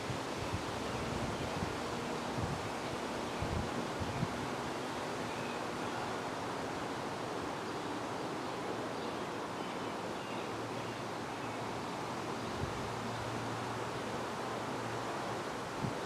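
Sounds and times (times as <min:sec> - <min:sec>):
steady wind: 0:00.0 - 0:16.0.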